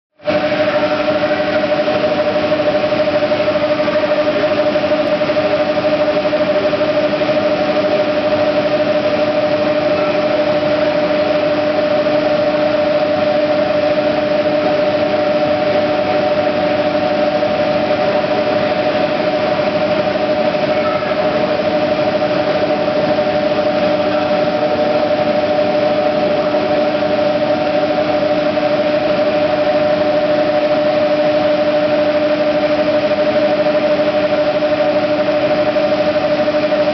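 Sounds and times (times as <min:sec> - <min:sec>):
turbine generator hum: 0:00.2 - 0:36.9.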